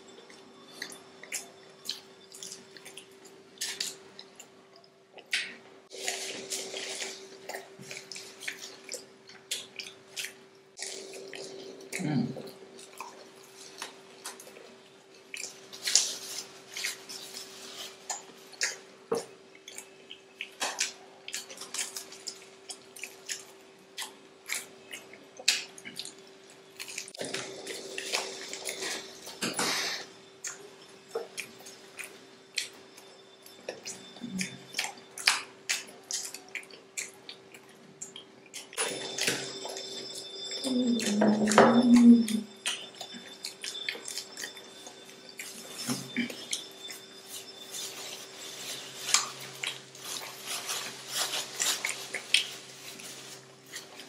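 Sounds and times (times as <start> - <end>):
faint steady hum: 0.0 - 54.0
crunchy chewing: 0.2 - 54.0.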